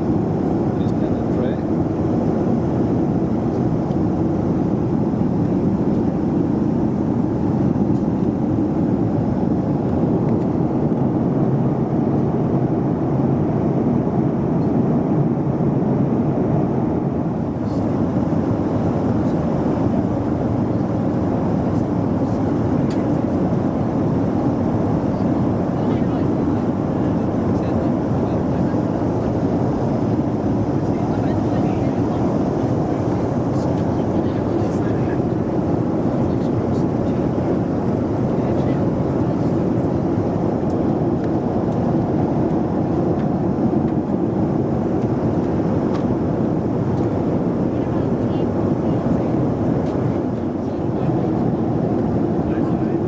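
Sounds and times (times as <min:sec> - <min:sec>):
airplane cabin engine rush: 0:00.0 - 0:53.0.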